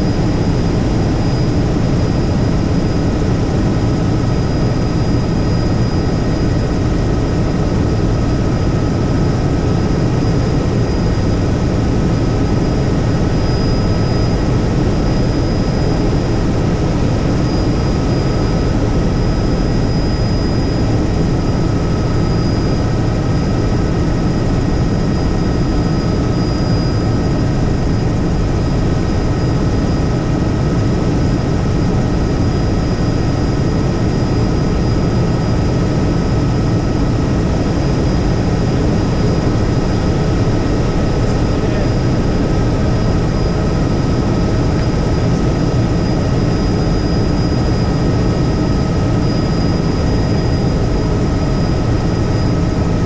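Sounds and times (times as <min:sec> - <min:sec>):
helicopter rotor and engine: 0:00.0 - 0:53.0.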